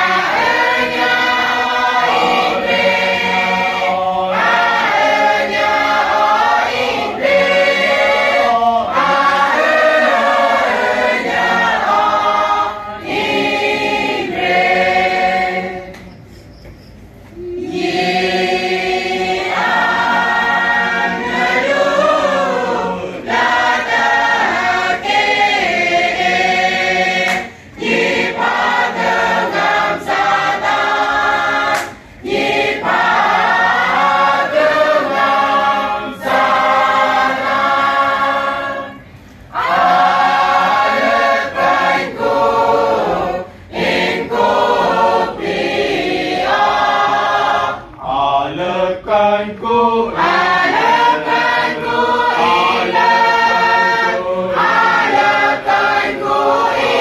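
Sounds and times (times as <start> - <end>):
choir singing: 0.0 - 16.3, 17.4 - 57.0.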